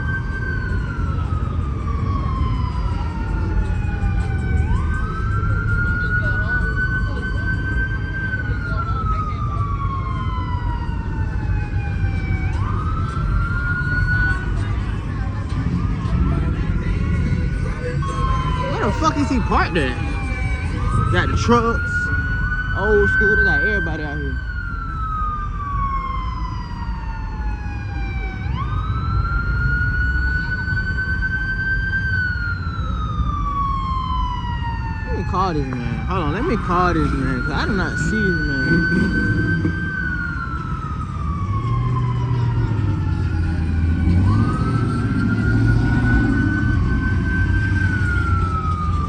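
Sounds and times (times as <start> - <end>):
emergency siren wailing: 0.0 - 49.0.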